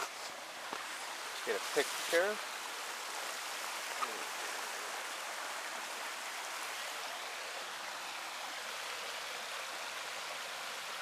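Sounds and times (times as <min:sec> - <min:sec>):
water rushing over small dam: 0:00.0 - 0:11.0.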